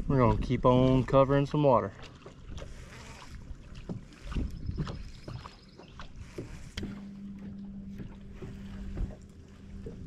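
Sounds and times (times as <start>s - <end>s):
wind and water rumble: 0.0s - 10.0s.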